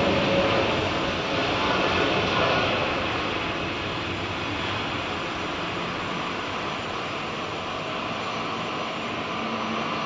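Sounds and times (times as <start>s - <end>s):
jet engine rushing: 0.0s - 10.0s.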